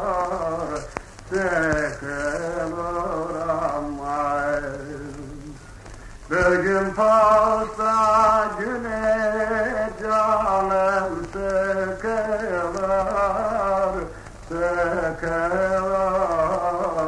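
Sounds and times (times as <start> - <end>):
man singing a folk song: 0.0 - 17.0
recording hiss: 0.0 - 17.0.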